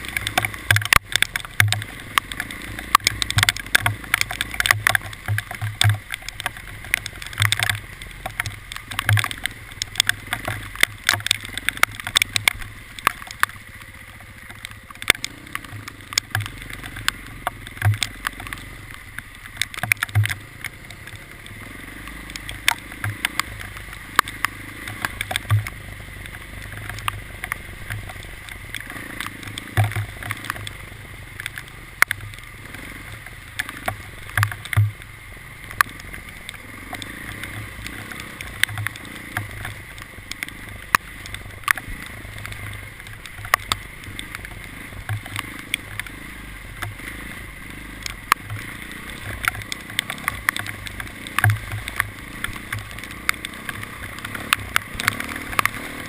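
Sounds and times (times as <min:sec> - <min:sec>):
sharp ticks and knocks: 0:00.0 - 0:56.0
vehicle engine droning: 0:00.0 - 0:56.0.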